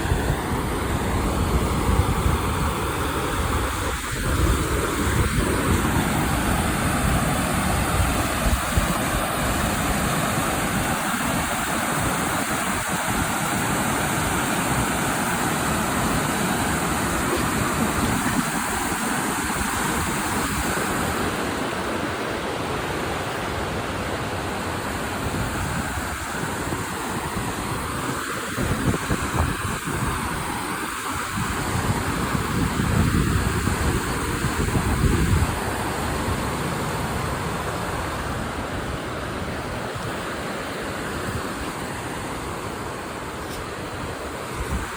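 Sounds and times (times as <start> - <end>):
wind on microphone: 0.0 - 23.7, 24.4 - 44.9
creek water rushing: 0.0 - 44.9.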